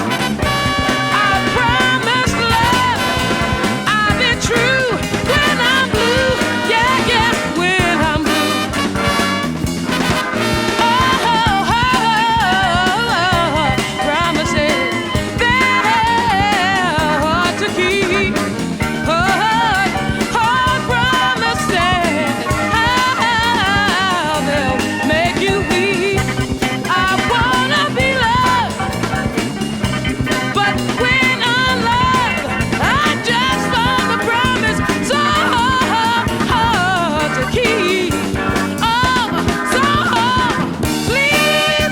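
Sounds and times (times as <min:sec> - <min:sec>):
upbeat ska song with vocals: 0:00.0 - 0:41.9.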